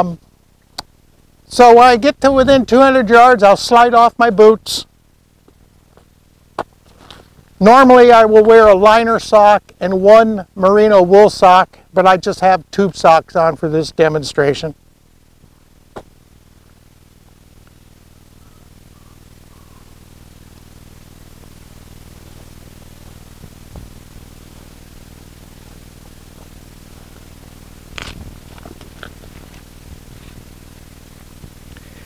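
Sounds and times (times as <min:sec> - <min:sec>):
low hum and hiss: 0:00.0 - 0:32.0.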